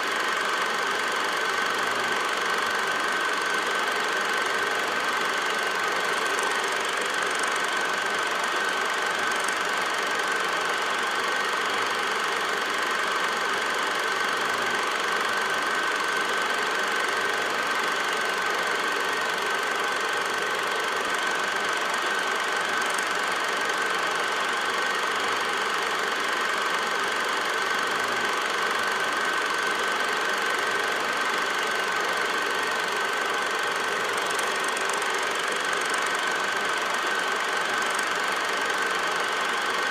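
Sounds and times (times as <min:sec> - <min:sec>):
film projector running with whine: 0:00.0 - 0:39.9.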